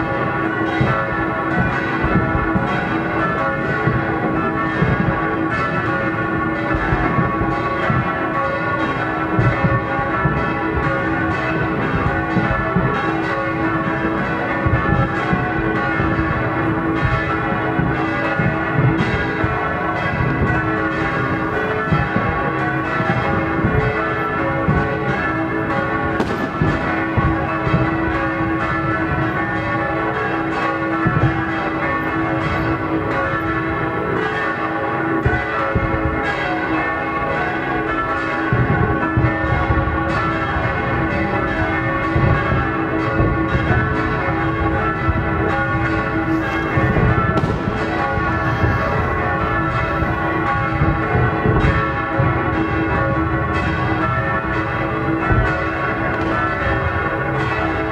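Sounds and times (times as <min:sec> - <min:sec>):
church bells pealing: 0:00.0 - 0:57.9
dull firework bangs: 0:00.7 - 0:25.1, 0:25.7 - 0:30.0, 0:31.0 - 0:31.5, 0:38.5 - 0:57.1.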